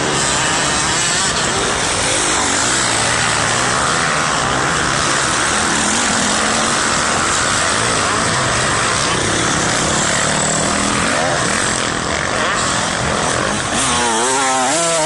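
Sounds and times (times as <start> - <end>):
dirt bike engine running: 0.0 - 15.0
loud steady rushing noise: 0.0 - 15.0.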